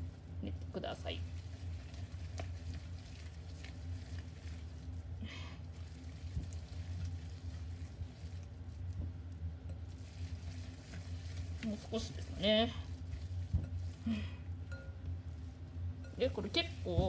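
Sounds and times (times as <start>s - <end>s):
low steady hum: 0.0s - 17.0s
meat squishing as kneaded by hand: 0.0s - 17.0s.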